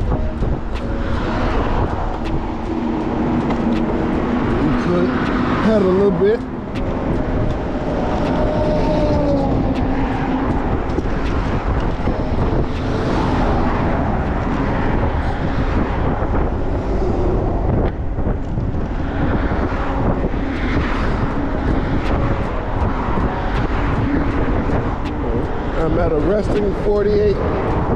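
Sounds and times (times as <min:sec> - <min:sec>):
electric bike road noise: 0:00.0 - 0:27.9
wind rushing over microphone: 0:00.0 - 0:27.9.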